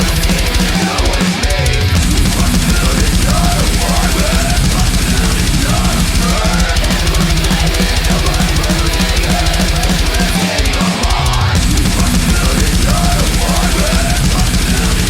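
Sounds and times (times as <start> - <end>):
death metal music: 0.0 - 15.0
distorted guitars: 0.0 - 15.0
rapid kick drums: 0.0 - 15.0.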